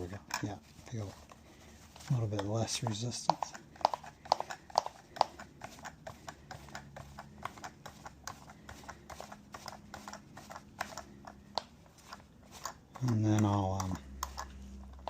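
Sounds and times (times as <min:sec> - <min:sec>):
tap clicking and creaking in plastic: 0:02.3 - 0:15.0.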